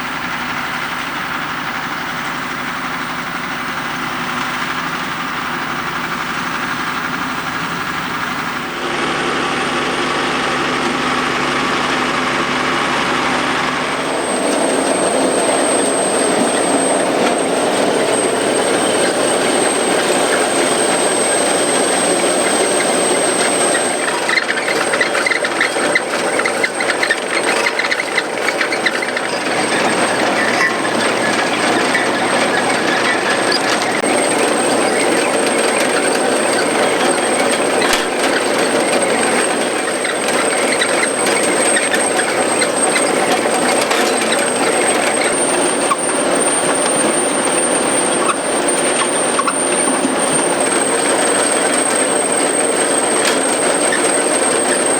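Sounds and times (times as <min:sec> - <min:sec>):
harvester mechanical clatter: 0:00.0 - 0:54.9
tractor engine running: 0:00.0 - 0:54.9.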